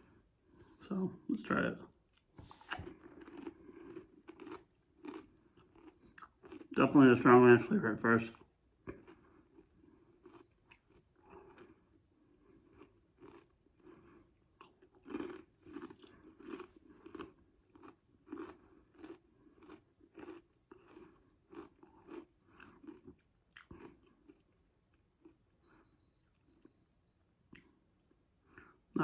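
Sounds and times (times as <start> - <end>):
person chewing crisp chips: 2.1 - 7.0, 8.3 - 28.9.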